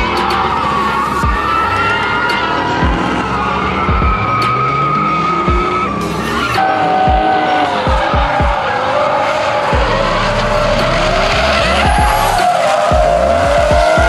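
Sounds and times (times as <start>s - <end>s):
car engine revving hard: 0.0s - 14.0s
tyres squealing: 0.0s - 14.0s.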